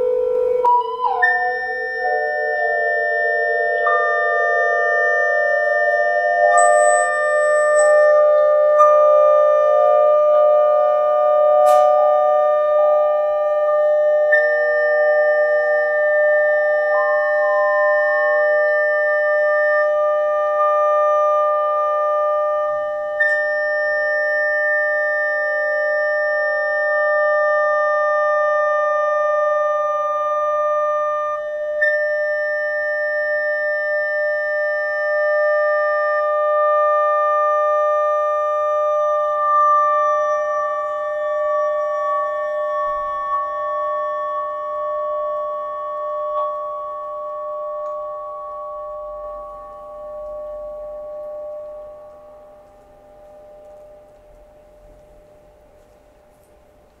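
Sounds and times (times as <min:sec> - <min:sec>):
pure sine tones chord: 0:00.0 - 0:57.0.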